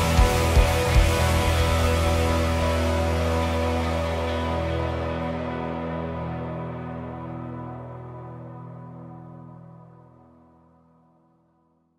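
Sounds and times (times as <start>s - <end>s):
slow ambient music: 0.0s - 11.9s.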